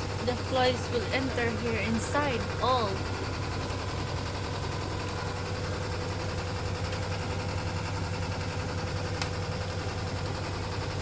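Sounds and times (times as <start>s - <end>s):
boat engine rattling hum: 0.0s - 11.0s.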